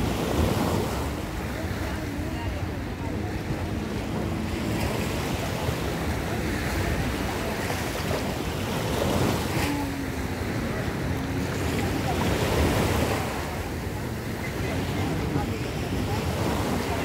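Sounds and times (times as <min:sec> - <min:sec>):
small waves lapping: 0:00.0 - 0:17.0
wind rumble on microphone: 0:00.0 - 0:17.0.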